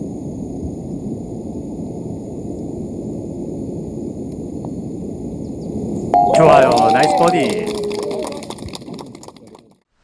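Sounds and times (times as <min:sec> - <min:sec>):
low wind rumble: 0:00.0 - 0:09.6.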